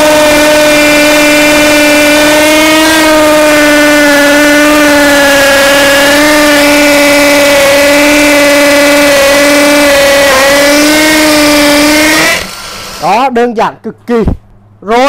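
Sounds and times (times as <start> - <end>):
hammer drill into concrete: 0.0 - 13.2.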